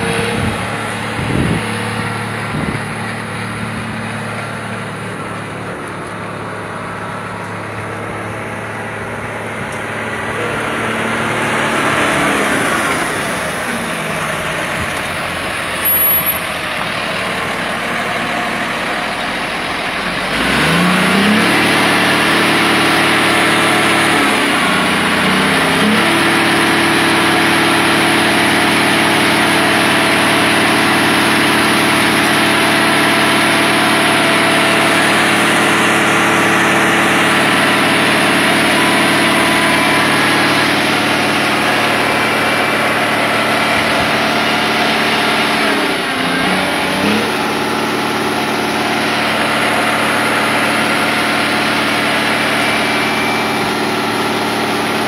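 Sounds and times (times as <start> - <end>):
grader diesel engine running: 0.0 - 55.0.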